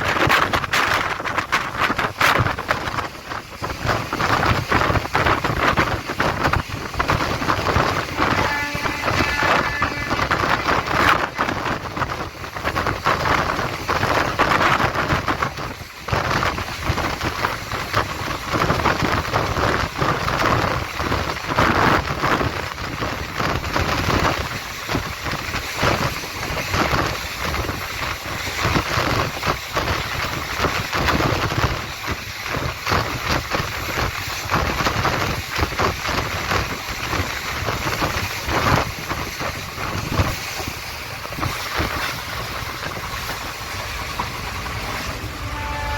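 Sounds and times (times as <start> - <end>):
train rumbling on rails: 0.0 - 45.9
wheels rattling and clattering: 0.0 - 45.9.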